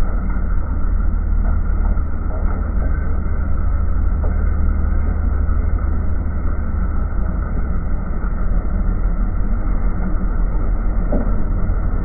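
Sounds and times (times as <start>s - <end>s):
harvester low mechanical rumble: 0.0s - 12.0s.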